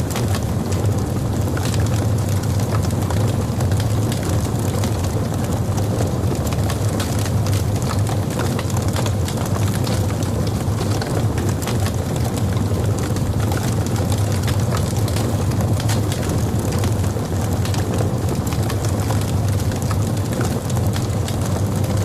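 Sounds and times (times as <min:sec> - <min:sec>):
fire crackling and popping: 0:00.0 - 0:22.0
low rumble of fire: 0:00.0 - 0:22.0.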